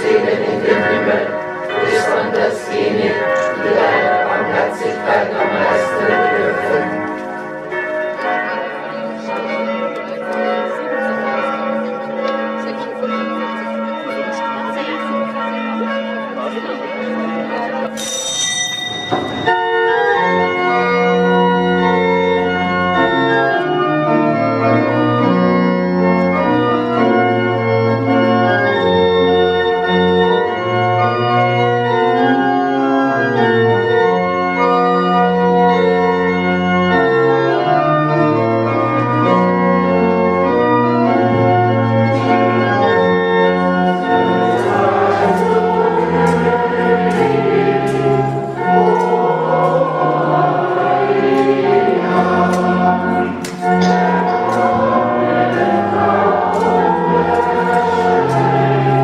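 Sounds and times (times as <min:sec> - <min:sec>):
pipe organ playing held chords: 0:00.0 - 0:59.0.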